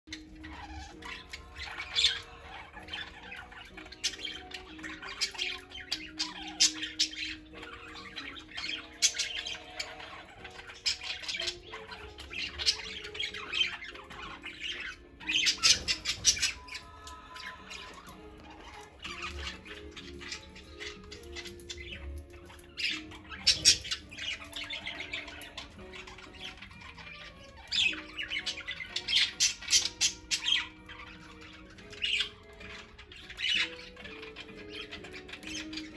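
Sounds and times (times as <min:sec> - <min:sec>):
budgerigars chattering: 0:00.1 - 0:35.9
loud bird squawks: 0:00.1 - 0:35.9.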